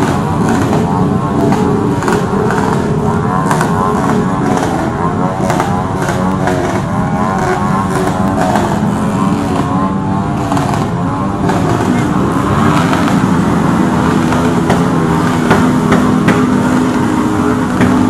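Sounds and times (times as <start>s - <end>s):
many motorcycle engines revving: 0.0s - 18.0s.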